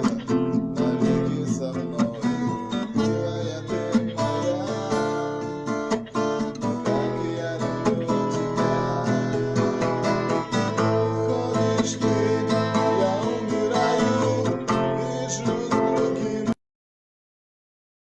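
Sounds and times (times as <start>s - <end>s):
acoustic guitar strummed and plucked: 0.0s - 16.6s.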